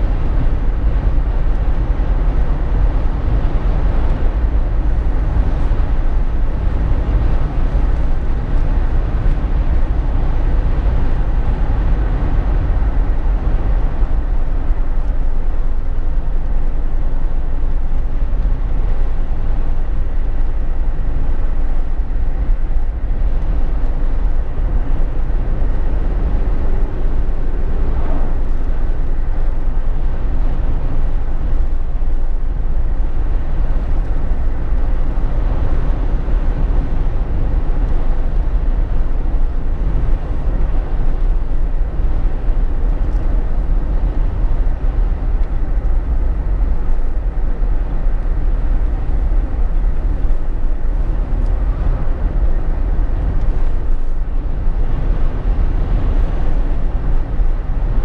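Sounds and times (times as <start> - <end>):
car cabin road and engine drone: 0.0 - 58.0.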